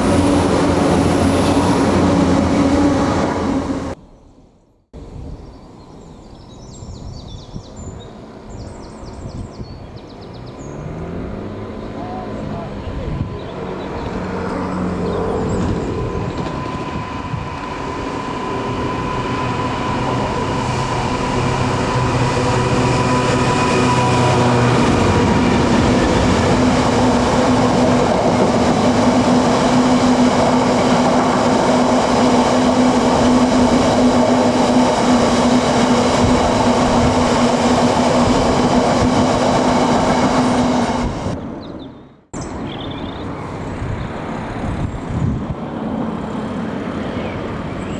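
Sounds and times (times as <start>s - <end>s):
train passing: 0.0s - 4.1s, 9.8s - 47.9s.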